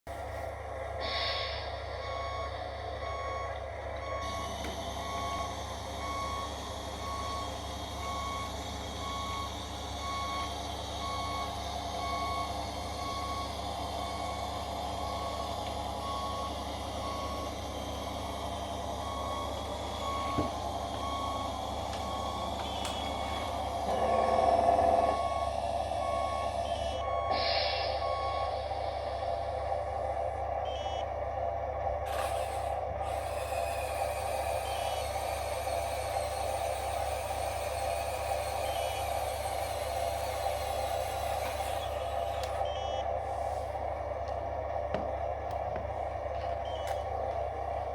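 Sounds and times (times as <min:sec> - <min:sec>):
simulated diesel truck engine: 0:00.1 - 0:47.9
reversing alarm beeping: 0:01.0 - 0:31.5, 0:32.1 - 0:44.1, 0:46.4 - 0:47.2.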